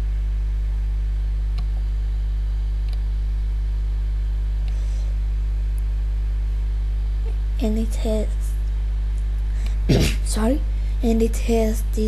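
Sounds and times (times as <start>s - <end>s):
electrical hum with hiss: 0.0s - 12.0s.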